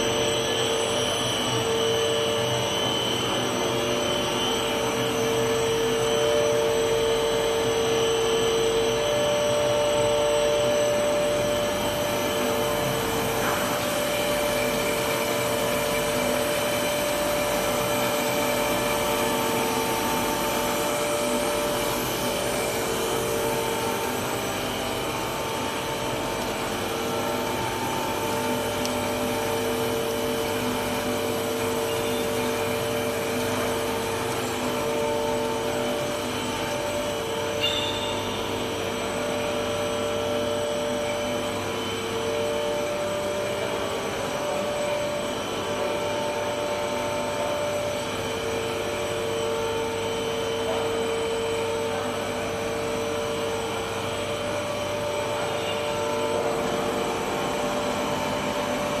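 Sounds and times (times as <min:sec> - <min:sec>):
machine hum and whine: 0:00.0 - 0:59.0.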